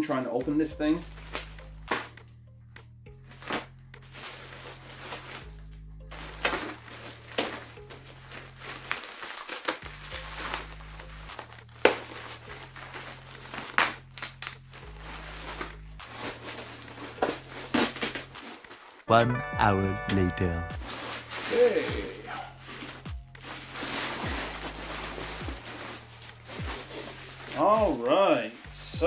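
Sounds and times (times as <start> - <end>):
background music with bass line: 0.0 - 9.0, 9.8 - 18.4, 19.1 - 29.0
plastic packaging crinkling: 1.0 - 2.3, 3.2 - 19.1, 20.8 - 28.7.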